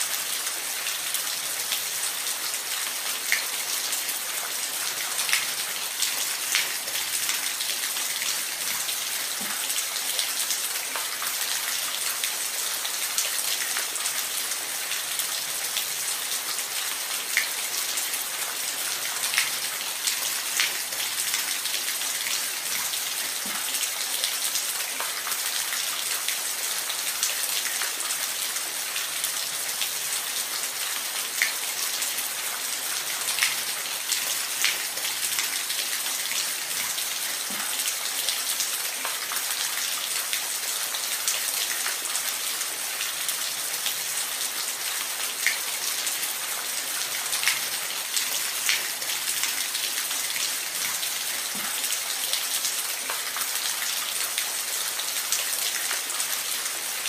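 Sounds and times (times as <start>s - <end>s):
rain hissing in forest: 0.0s - 57.0s.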